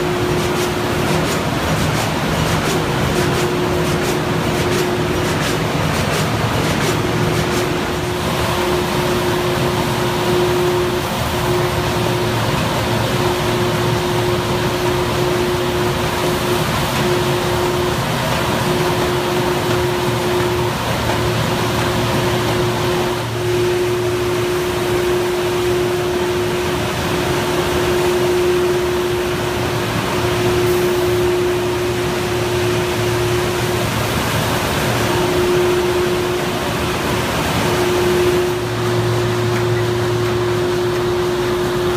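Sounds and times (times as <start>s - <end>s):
machine drone with humming tone: 0.0s - 41.9s.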